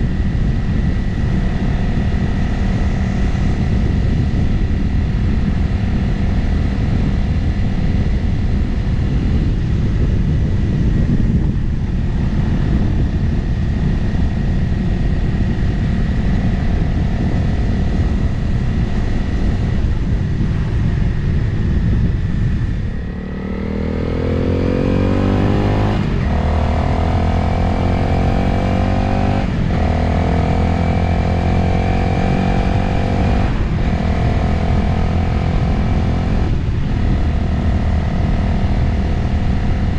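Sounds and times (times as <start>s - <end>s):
motorcycle engine cruising: 0.0s - 39.9s
wind noise on microphone: 0.0s - 39.9s.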